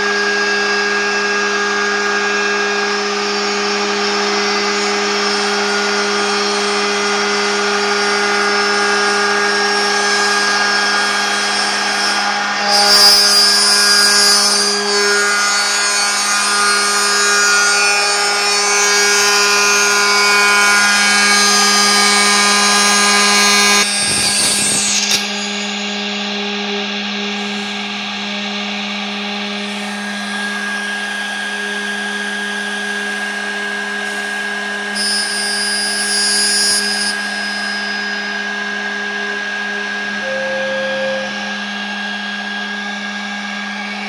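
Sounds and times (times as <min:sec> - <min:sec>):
end mill cutting wood: 0:00.0 - 0:44.0
router spindle whine: 0:00.0 - 0:44.0.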